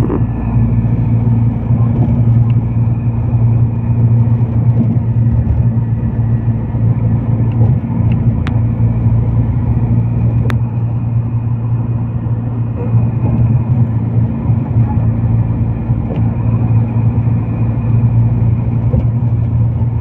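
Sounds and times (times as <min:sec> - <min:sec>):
vehicle engine and road drone: 0:00.0 - 0:20.0.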